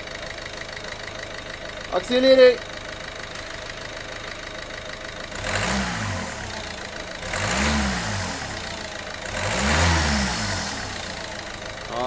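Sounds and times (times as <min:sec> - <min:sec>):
diesel engine idling and revving: 0:00.0 - 0:12.0.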